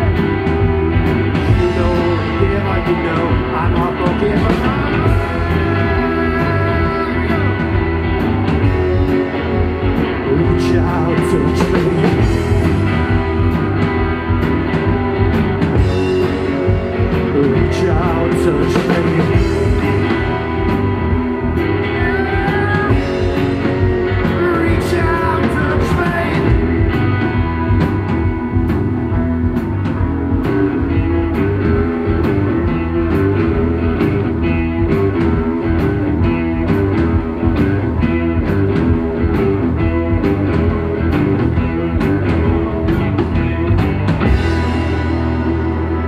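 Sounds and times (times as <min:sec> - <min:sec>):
bass guitar: 0:00.0 - 0:46.0
drum kit and cymbals: 0:00.0 - 0:46.0
electric guitars: 0:00.0 - 0:46.0.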